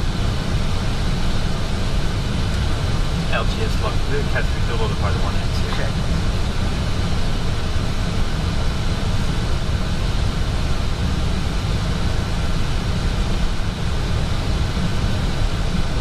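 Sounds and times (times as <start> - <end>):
cockpit airflow rumble: 0.0 - 16.0.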